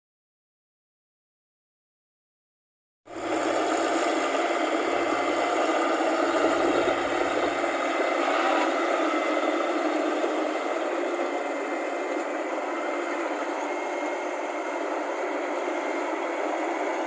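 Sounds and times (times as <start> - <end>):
combine harvester engine running: 3.1 - 17.0.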